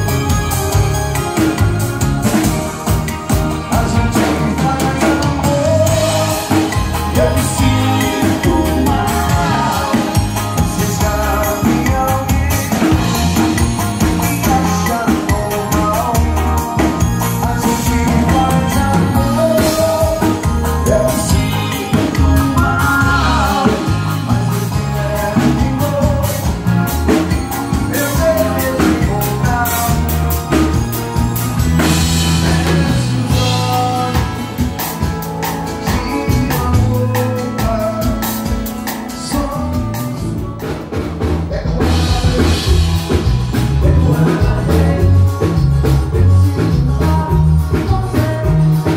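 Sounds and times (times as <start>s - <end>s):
drum kit: 0.0s - 48.9s
electric guitars: 0.0s - 48.9s
man singing: 2.2s - 31.1s, 31.7s - 48.9s.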